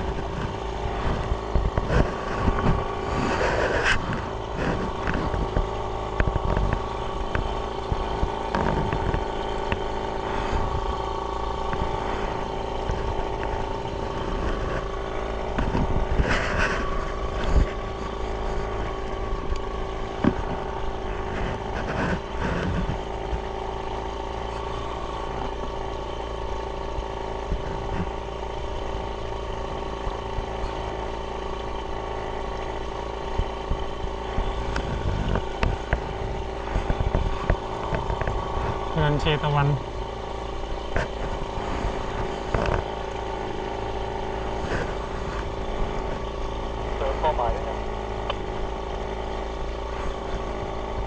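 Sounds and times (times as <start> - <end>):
small boat engine running: 0.0 - 51.0.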